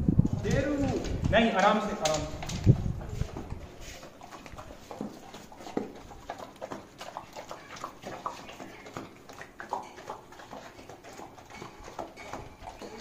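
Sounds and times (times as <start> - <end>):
dogs smacking and chewing: 0.5 - 13.0.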